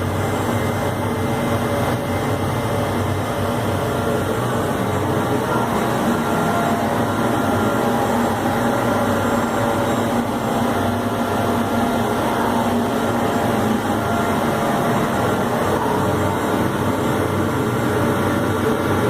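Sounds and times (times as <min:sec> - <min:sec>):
faint steady tones: 0:00.0 - 0:19.0
laser cutter machine drone: 0:00.0 - 0:19.0.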